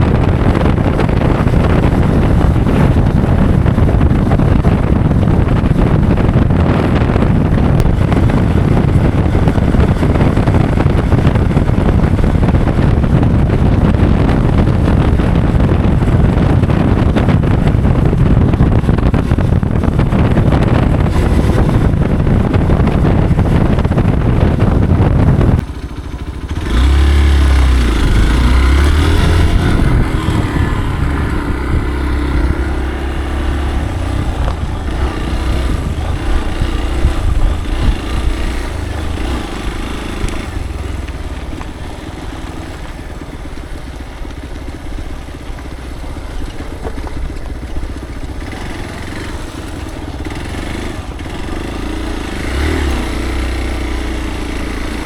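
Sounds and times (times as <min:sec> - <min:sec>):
motorcycle engine revving: 0:00.0 - 0:55.0
wind rushing on microphone: 0:00.0 - 0:55.0.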